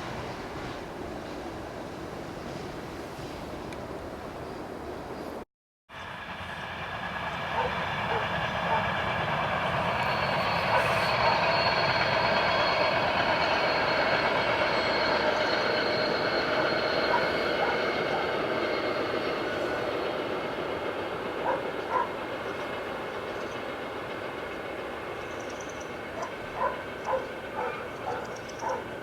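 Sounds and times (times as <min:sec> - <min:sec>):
train rumbling by: 0:00.0 - 0:29.0.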